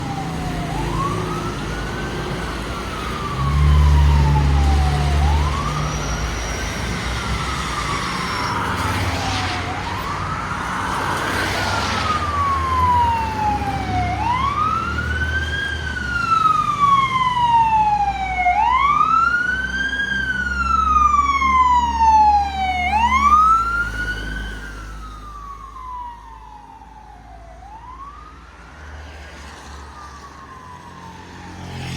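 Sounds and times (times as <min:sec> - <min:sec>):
fire engine siren wailing: 0:00.0 - 0:31.9.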